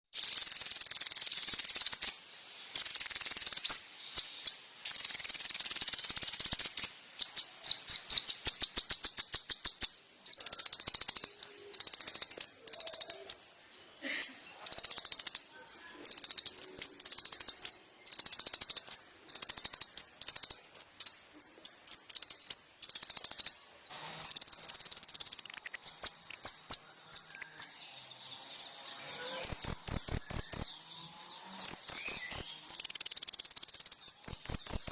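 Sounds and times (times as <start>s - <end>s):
sunbird trills and chirps: 0.1s - 34.9s.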